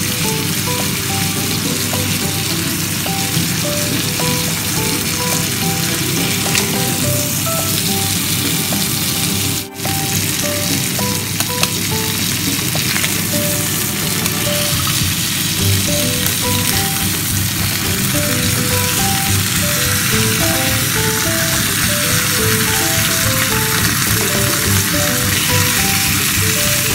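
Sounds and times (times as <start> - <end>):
background music: 0.0 - 26.9
steaks sizzling in a pan: 0.2 - 26.9.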